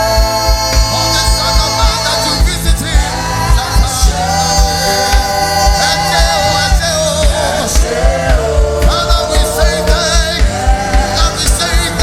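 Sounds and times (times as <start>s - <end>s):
gospel worship band: 0.0s - 12.0s
kick drum beat: 0.0s - 12.0s.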